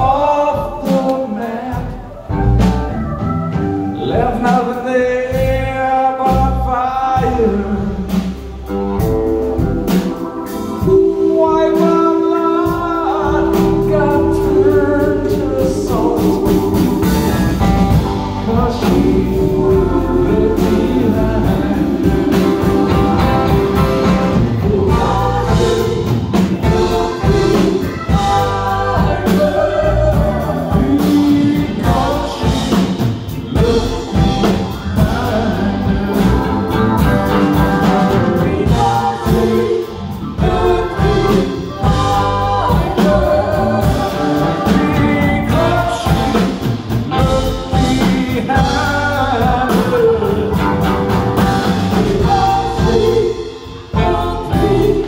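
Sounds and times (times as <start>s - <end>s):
live rock band playing: 0.0s - 55.0s
voices singing: 0.0s - 55.0s.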